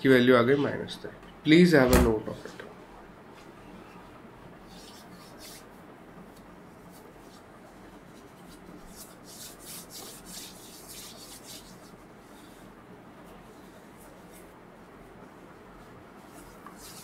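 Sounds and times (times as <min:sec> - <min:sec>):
low room hum: 0:00.0 - 0:17.0
rubbing and rustling of clothing: 0:02.2 - 0:17.0.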